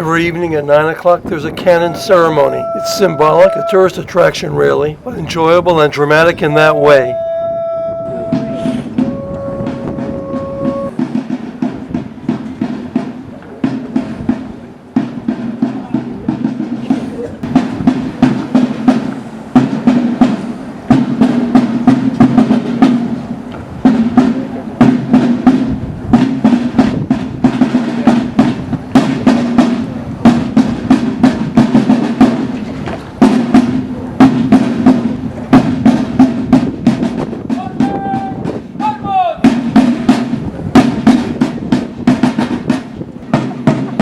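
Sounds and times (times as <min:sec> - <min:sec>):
marching drums with rolls: 0:00.0 - 0:44.0.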